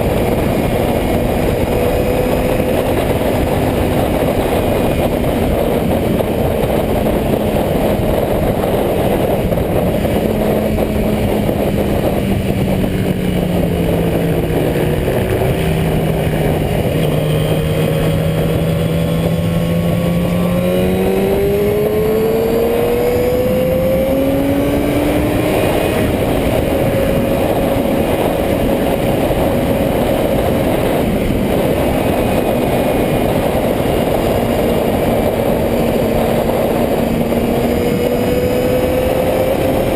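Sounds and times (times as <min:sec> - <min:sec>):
motorcycle engines running: 0:00.0 - 0:39.9
wind and road noise: 0:00.0 - 0:39.9.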